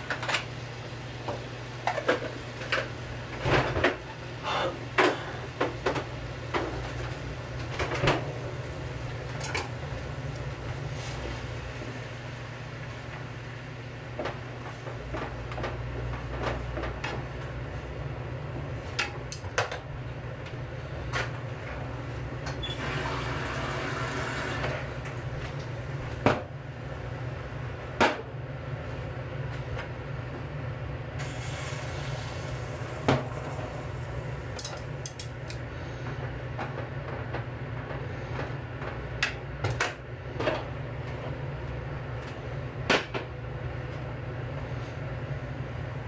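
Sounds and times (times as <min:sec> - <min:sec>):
gas burner humming: 0:00.0 - 0:16.2, 0:17.2 - 0:46.0.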